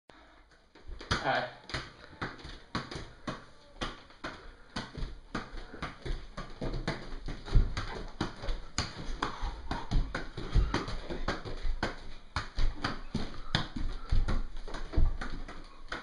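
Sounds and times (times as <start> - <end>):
ball thudding on hardwood floor: 0.9 - 16.0.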